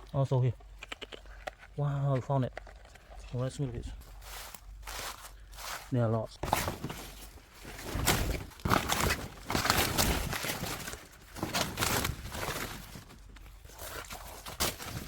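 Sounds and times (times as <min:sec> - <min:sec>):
dry vegetation rustling and crunching: 0:02.5 - 0:15.0.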